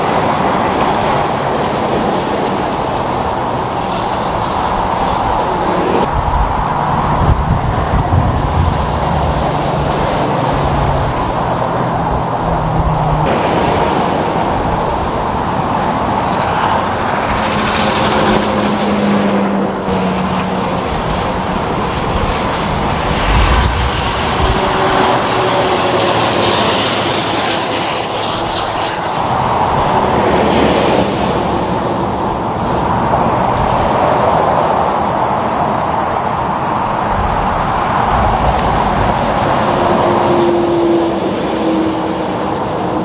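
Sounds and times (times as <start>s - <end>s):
trucks and cars passing: 0.0s - 43.0s.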